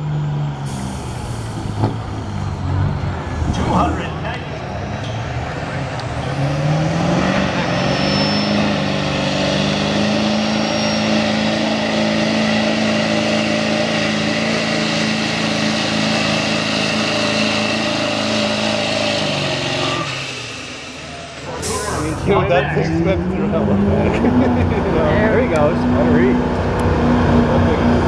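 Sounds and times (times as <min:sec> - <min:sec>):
diesel engine at full throttle: 0:00.0 - 0:28.0.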